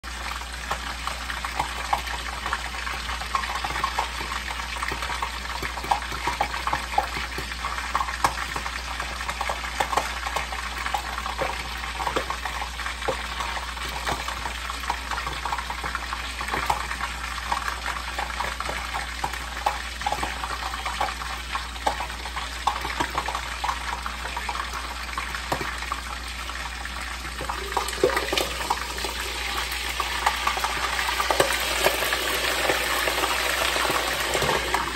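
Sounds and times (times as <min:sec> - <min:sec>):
fish sizzling in oil: 0:00.0 - 0:34.9.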